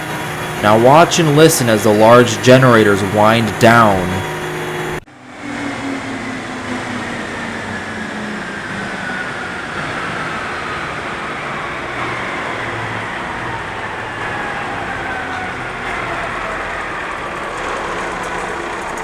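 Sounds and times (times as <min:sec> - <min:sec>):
machinery rumble: 0:00.0 - 0:19.0.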